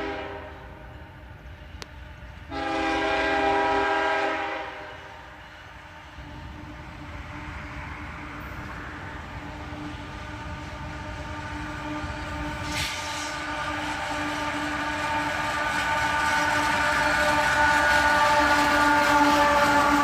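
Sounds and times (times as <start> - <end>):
freight train approaching: 0.0 - 20.0.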